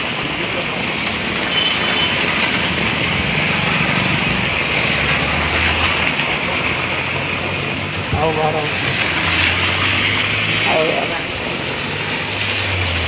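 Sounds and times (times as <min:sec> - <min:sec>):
car tyres on wet street: 0:00.0 - 0:13.0
rain hissing: 0:00.0 - 0:13.0.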